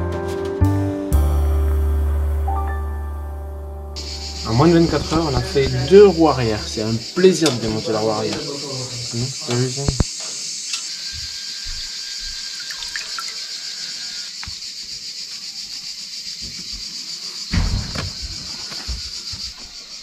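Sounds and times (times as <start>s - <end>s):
insects chirring: 4.0s - 20.0s.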